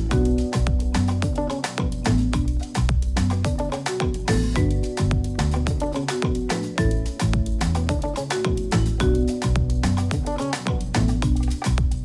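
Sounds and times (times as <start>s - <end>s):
steady drum beat: 0.0s - 12.0s
sustained melodic notes: 0.0s - 12.0s.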